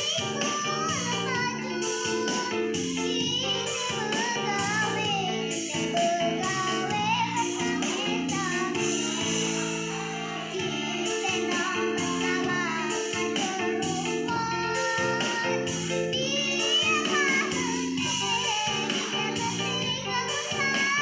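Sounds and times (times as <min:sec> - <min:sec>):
girl singing hoarsely: 0:00.0 - 0:09.8, 0:10.5 - 0:21.0
instrumental backing track: 0:00.0 - 0:21.0.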